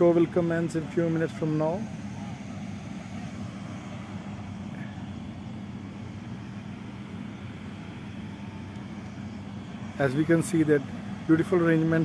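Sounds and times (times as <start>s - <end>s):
steady engine-like hum: 0.0s - 12.0s.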